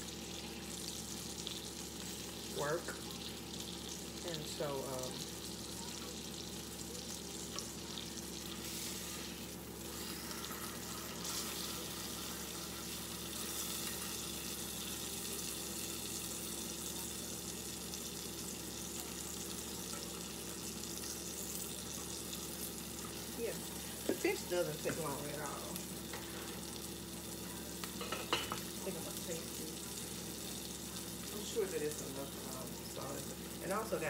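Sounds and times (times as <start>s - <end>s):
fish sizzling in a skillet: 0.0s - 34.0s.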